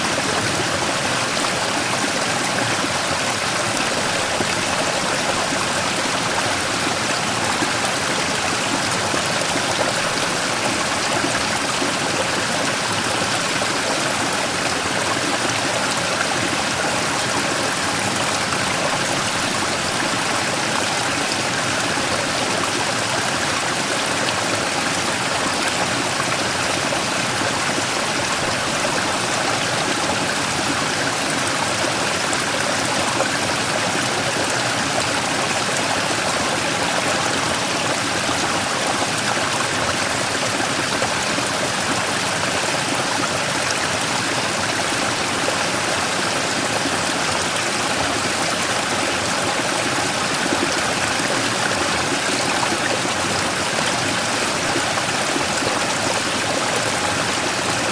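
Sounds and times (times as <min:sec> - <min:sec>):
stream rushing over rock: 0:00.0 - 0:57.9.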